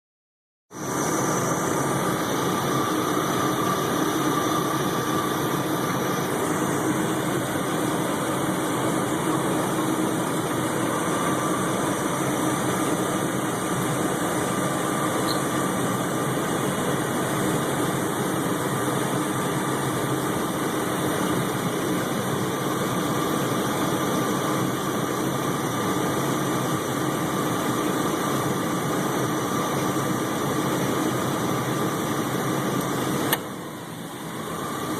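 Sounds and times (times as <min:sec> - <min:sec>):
car engine idling with whine: 0:00.7 - 0:34.9.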